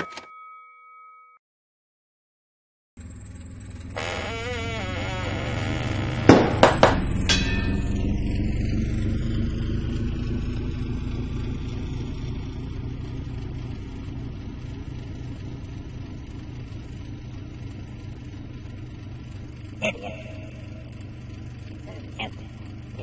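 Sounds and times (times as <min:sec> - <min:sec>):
engine rumble with high whine: 0:03.0 - 0:23.0.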